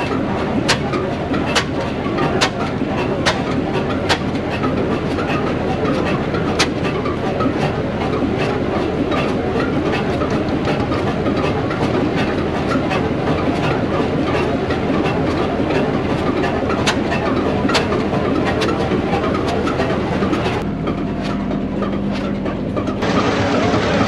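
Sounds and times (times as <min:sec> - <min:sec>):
stationary engine clattering: 0:00.0 - 0:24.0.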